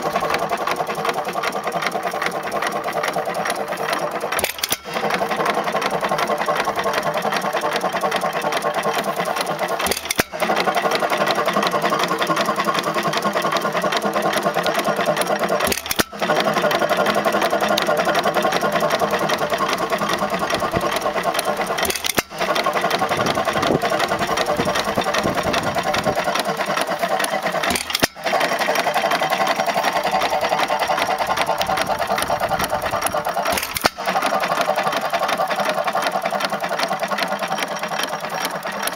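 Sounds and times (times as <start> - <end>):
gas engine clattering: 0.0 - 38.9.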